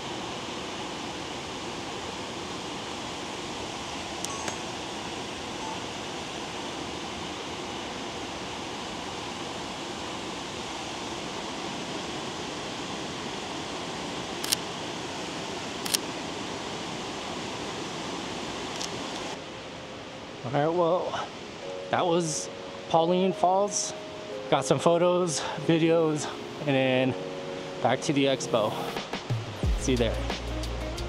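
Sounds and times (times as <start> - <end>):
waterfall rushing: 0.0 - 30.3.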